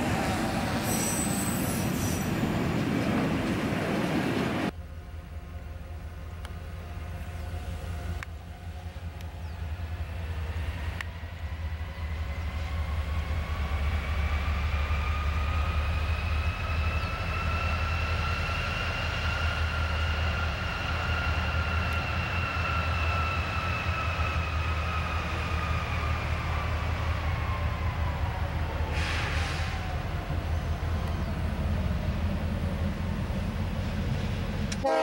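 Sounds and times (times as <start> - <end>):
diesel locomotive engine rumble: 0.0 - 35.0
locomotive whine: 0.0 - 35.0.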